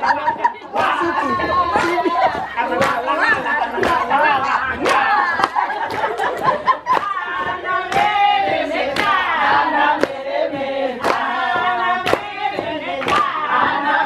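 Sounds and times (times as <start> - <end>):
hand claps: 0.0 - 14.0
women singing together: 0.0 - 14.0.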